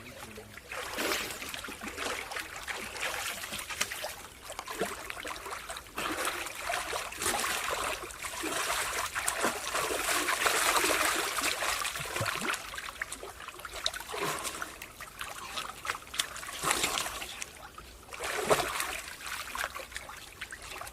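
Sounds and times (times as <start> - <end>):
water splashing and trickling: 0.0 - 20.9.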